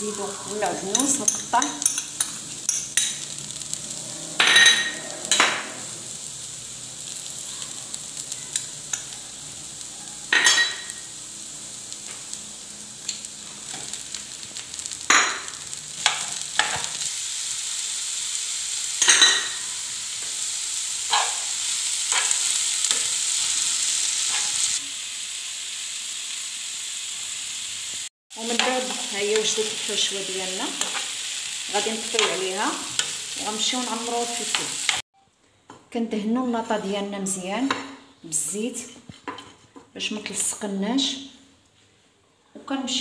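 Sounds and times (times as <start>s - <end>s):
food sizzling in a pan: 0.0s - 35.1s.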